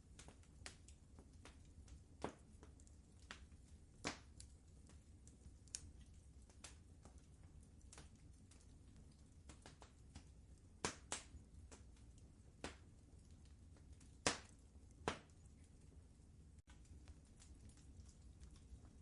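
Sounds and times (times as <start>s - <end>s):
fire popping: 0.0s - 19.0s
fire rumbling: 0.0s - 19.0s.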